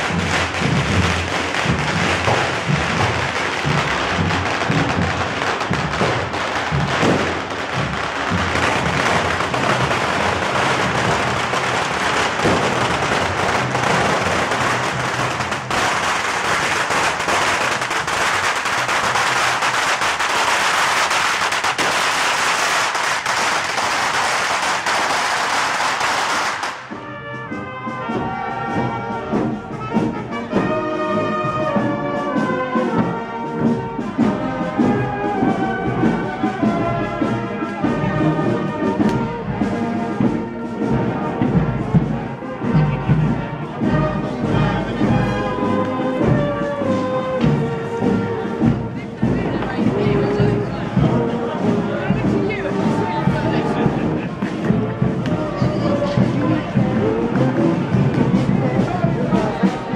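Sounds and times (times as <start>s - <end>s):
fireworks crackling and banging: 0.0s - 27.4s, 32.0s - 59.9s
brass band playing: 0.0s - 59.9s.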